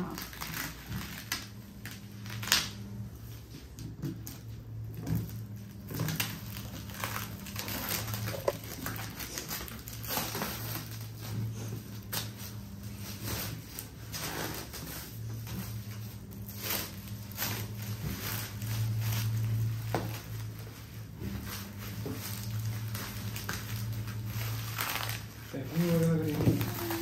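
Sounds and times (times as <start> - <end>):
packaging rustling and crinkling: 0.0 - 27.0
steady low hum: 0.0 - 27.0.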